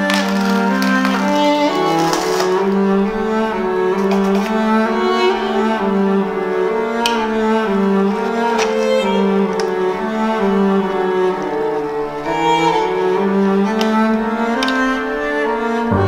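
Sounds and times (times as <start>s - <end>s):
slow sustained background music: 0.0s - 16.0s.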